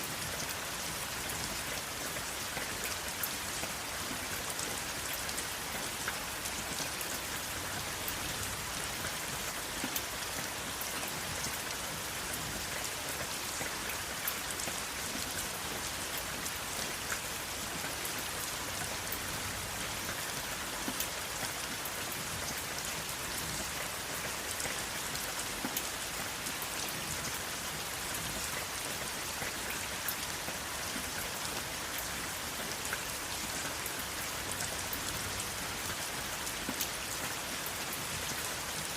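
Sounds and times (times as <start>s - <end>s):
steady rain hiss: 0.0s - 38.9s
raindrops ticking on a surface: 0.1s - 38.9s.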